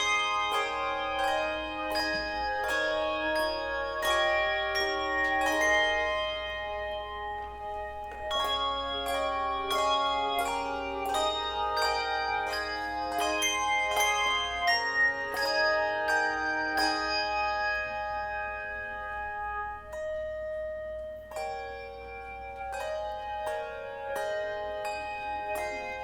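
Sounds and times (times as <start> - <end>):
christmas music of ringing chords: 0.0 - 26.0.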